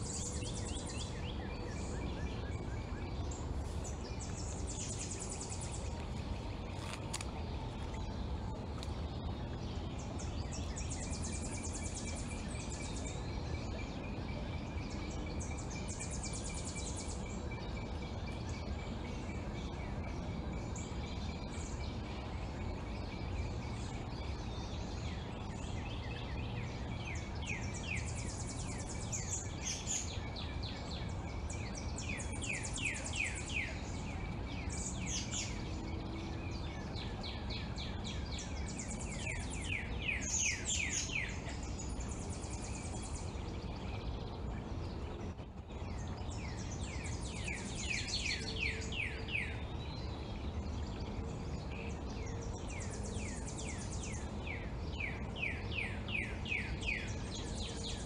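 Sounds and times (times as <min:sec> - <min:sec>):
low background rumble: 0:00.0 - 0:58.0
songbirds chirping: 0:00.0 - 0:58.0.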